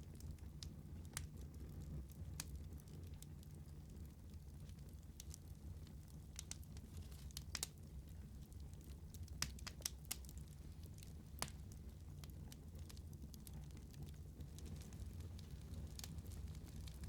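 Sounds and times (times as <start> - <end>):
burning wood crackling: 0.0 - 17.0.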